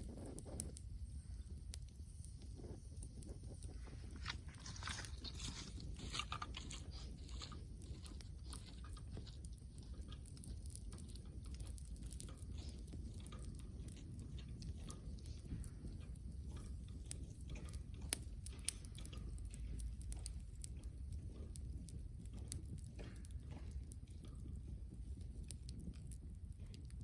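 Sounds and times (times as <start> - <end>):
bonfire crackling and popping: 0.0 - 27.0
low rumble of flames: 0.0 - 27.0.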